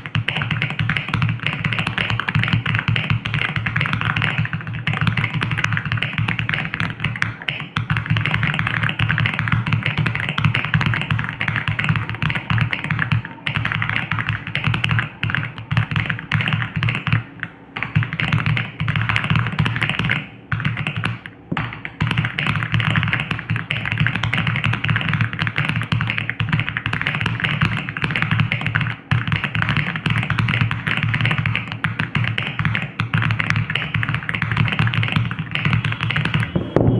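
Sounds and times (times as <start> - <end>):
mechanical keyboard typing: 0.0 - 36.6.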